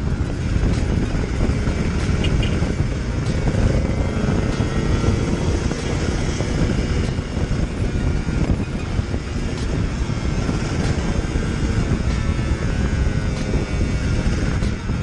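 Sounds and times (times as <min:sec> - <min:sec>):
motorcycle running: 0:00.0 - 0:15.0
wind rumble on microphone: 0:00.0 - 0:15.0.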